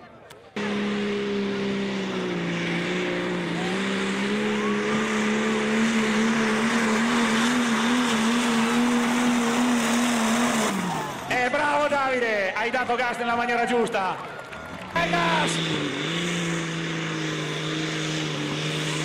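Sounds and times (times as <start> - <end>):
tractor engine at full throttle: 0.0 - 19.0.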